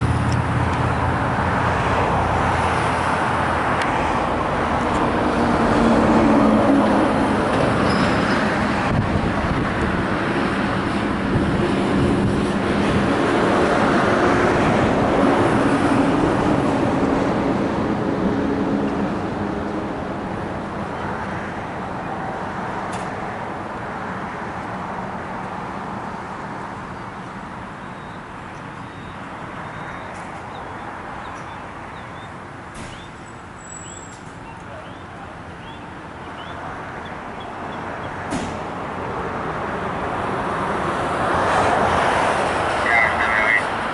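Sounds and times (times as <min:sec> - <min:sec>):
fire engine driving off: 0:00.0 - 0:43.9
road noise: 0:00.0 - 0:43.9.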